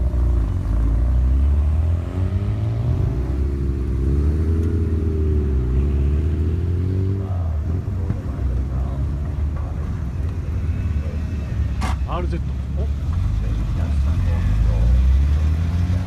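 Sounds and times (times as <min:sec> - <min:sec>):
sports car engine rumble: 0:00.0 - 0:16.0.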